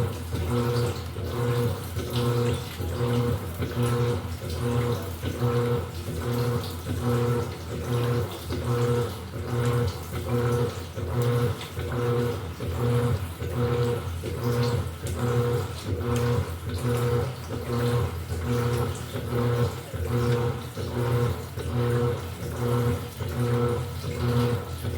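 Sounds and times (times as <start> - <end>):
washing machine motor humming: 0.0 - 24.9.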